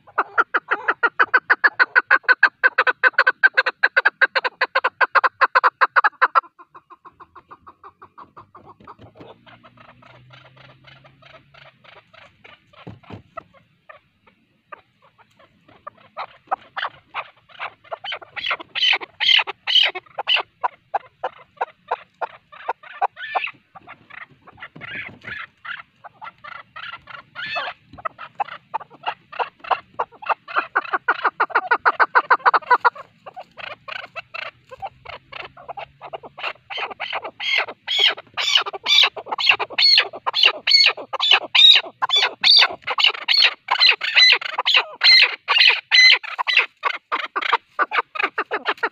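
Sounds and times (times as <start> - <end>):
partridge clucking call: 0.0 - 48.9.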